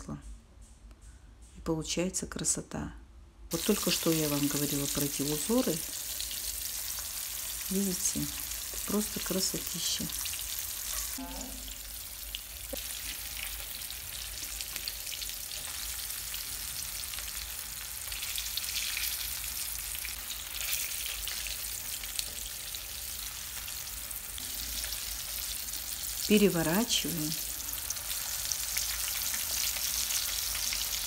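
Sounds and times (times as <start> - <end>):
fish sizzling in frying oil: 3.5 - 31.0.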